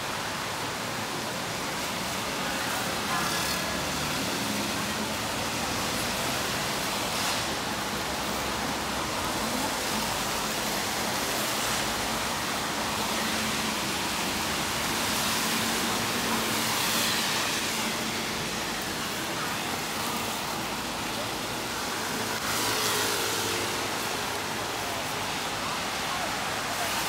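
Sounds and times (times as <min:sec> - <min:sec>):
rain falling on street: 0:00.0 - 0:27.0
traffic noise: 0:00.0 - 0:27.0.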